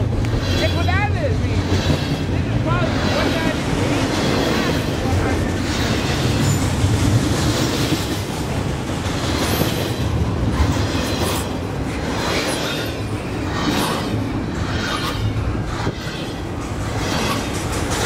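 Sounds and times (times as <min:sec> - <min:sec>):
steel wheels clacking over rail joints: 0:00.0 - 0:18.0
train rumbling past: 0:00.0 - 0:18.0.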